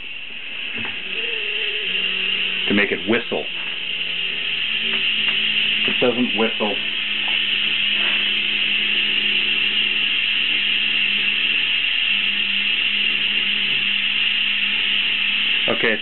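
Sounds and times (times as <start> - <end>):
boiler whistling: 0.0 - 16.0
low hum: 0.0 - 16.0.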